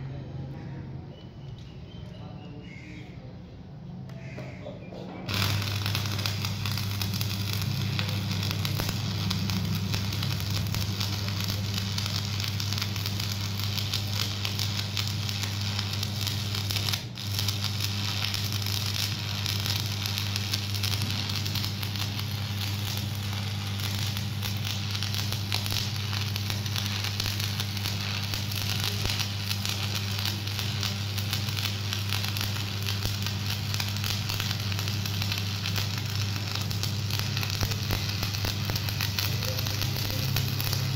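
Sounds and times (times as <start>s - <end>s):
welding arc crackling: 5.2s - 40.9s.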